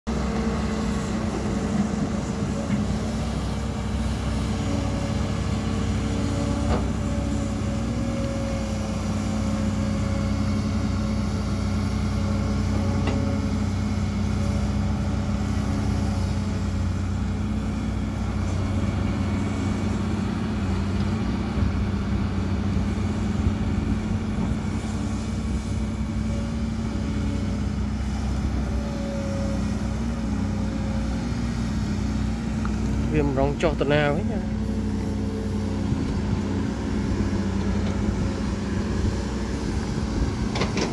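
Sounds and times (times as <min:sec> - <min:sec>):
excavator diesel engines: 0:00.1 - 0:40.9.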